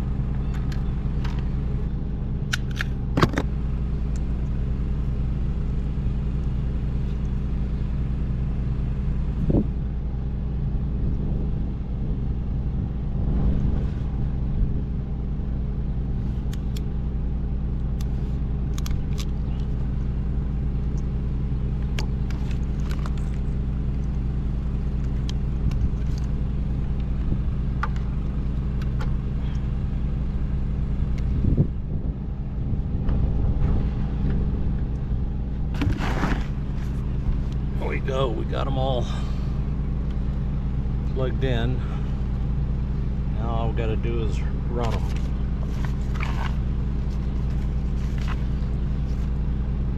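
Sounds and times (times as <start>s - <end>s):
low mechanical drone: 0.0s - 49.9s.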